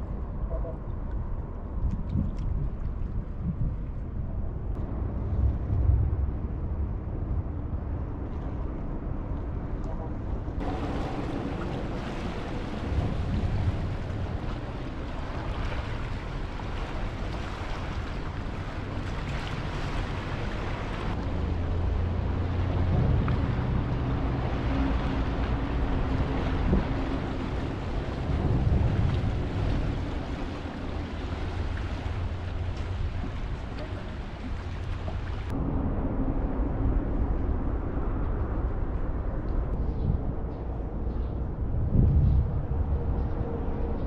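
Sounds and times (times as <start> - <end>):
wind on microphone: 0.0 - 44.0
sea noise: 4.0 - 39.8
low engine drone: 4.0 - 44.0.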